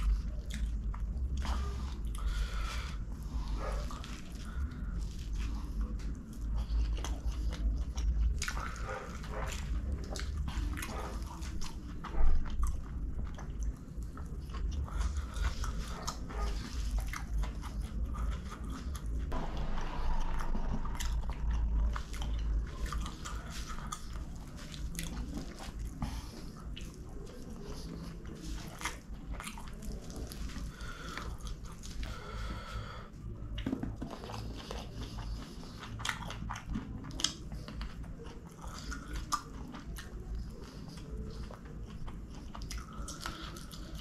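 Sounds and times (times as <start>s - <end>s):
chewing and lip-smacking: 0.0s - 44.0s.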